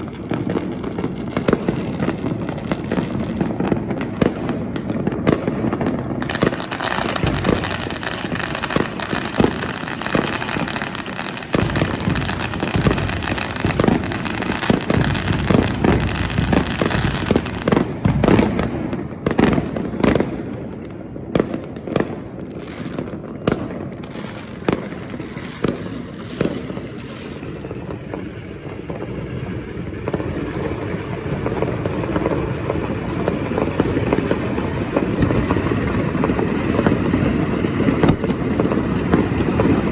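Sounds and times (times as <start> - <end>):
firecrackers and fireworks bangs: 0.0 - 39.9.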